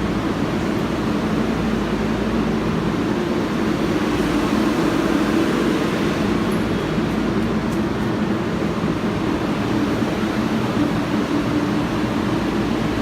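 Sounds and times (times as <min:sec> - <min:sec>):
subway train rumble from inside: 0:00.0 - 0:13.0.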